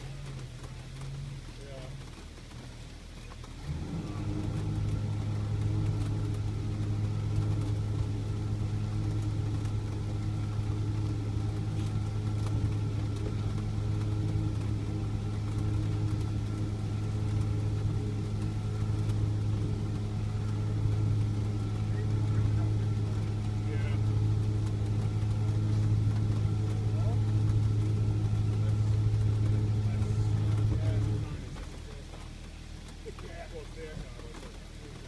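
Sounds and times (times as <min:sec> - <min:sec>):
motor droning steadily: 0:00.0 - 0:35.0.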